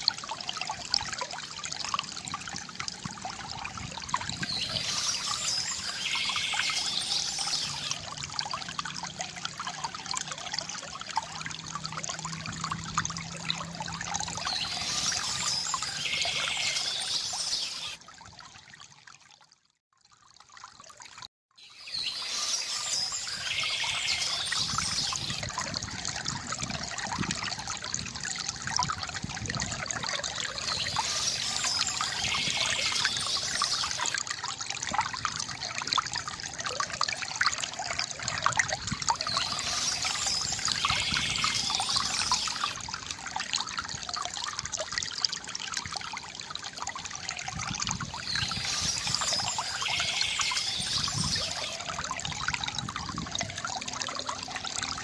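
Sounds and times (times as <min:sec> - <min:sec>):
fountain water trickling and gurgling: 0:00.0 - 0:55.0
small water splashes: 0:00.0 - 0:55.0.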